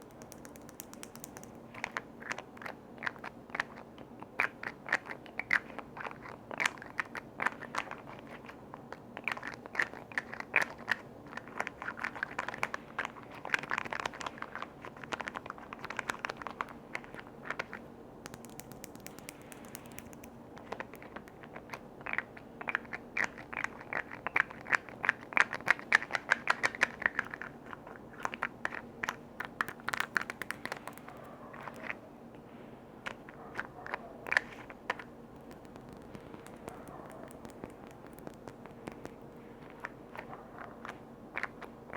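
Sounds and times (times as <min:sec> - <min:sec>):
tapping and scratching on lids: 0:00.0 - 0:32.0, 0:33.1 - 0:41.9.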